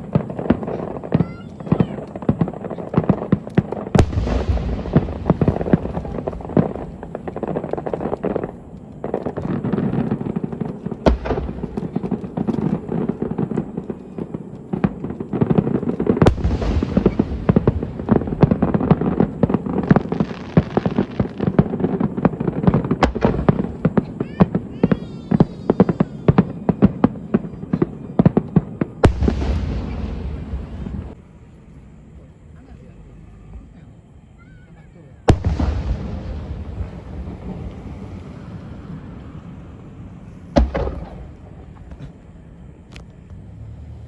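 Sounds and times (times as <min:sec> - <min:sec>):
firework shell booms: 0:00.0 - 0:31.2, 0:35.3 - 0:42.2
fireworks crackling: 0:00.0 - 0:44.0.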